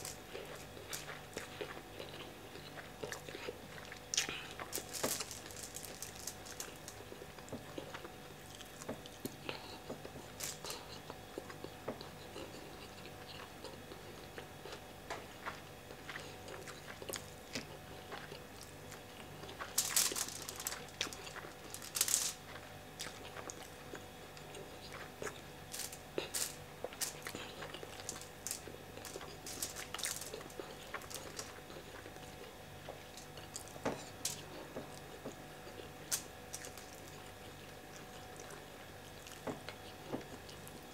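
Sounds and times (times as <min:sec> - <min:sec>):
man chewing food: 0:00.0 - 0:40.9.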